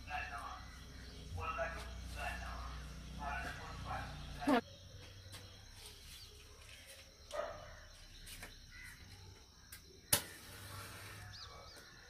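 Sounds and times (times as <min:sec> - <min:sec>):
birds and insects: 0:00.0 - 0:12.0.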